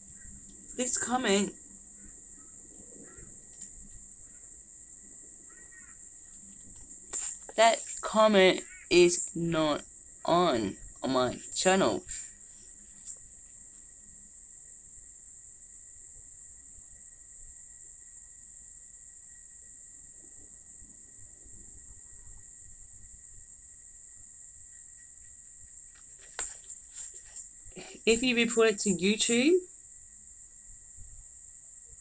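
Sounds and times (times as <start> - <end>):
faint steady tone: 0.0 - 32.0.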